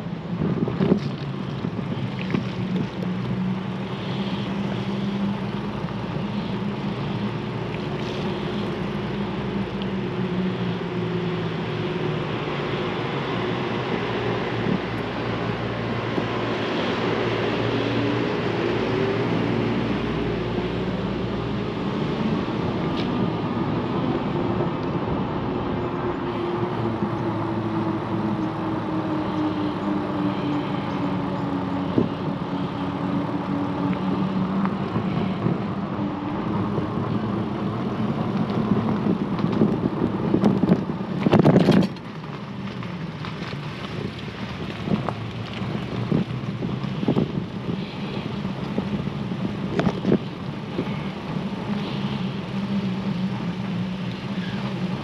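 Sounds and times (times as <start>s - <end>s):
wind and tyre noise: 0.0s - 55.0s.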